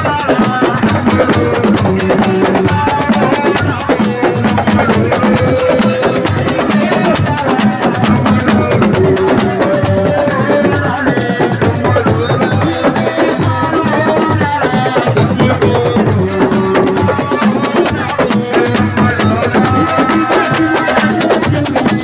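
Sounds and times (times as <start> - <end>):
fast drumming: 0.0 - 22.0
melody over drums: 0.0 - 22.0.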